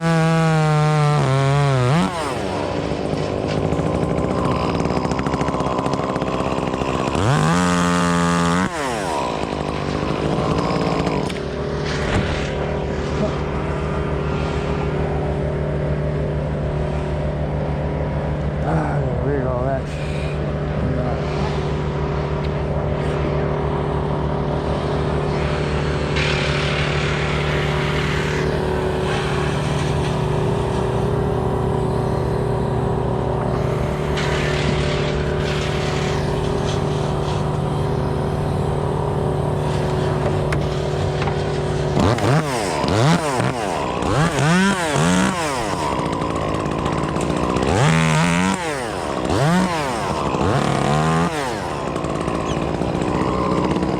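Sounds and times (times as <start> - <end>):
chainsaw engine idling: 0.0 - 53.9
engine revving: 0.0 - 53.9.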